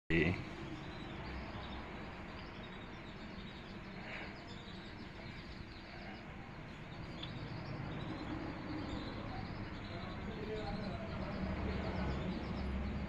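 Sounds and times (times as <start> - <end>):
small birds chirping: 0.1 - 13.0
steady background noise: 0.1 - 13.0.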